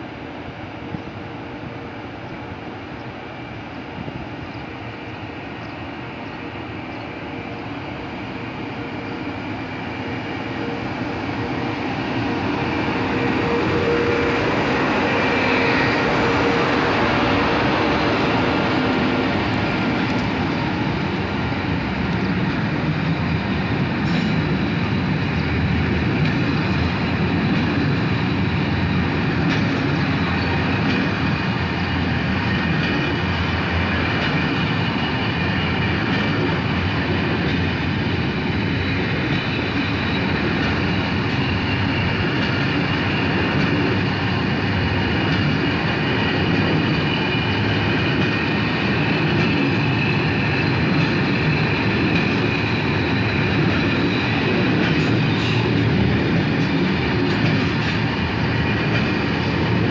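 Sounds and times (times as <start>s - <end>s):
electric locomotive passing: 0.0s - 59.9s
freight wagons rolling on rails: 11.5s - 59.9s.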